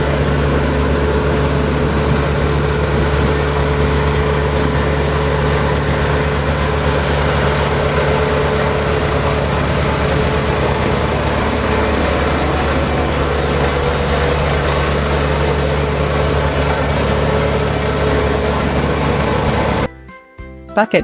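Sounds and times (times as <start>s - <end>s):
road roller engine drone: 0.0s - 19.9s.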